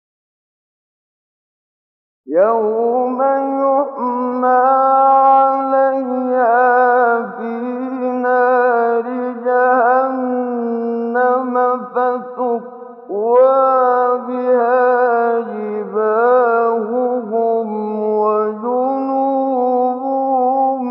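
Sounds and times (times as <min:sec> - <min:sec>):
man chanting unaccompanied: 0:02.3 - 0:20.9.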